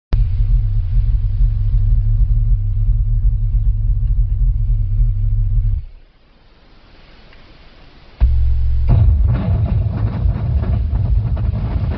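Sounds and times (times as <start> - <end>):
car engine low rumble: 0.1 - 6.8, 7.4 - 11.9.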